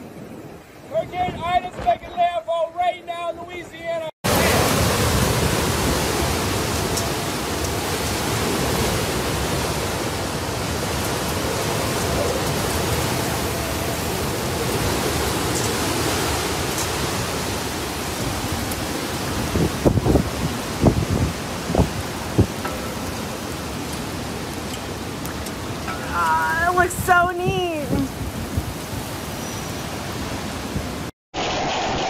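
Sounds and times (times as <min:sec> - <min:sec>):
strong wind and heavy rain: 0:00.0 - 0:32.0.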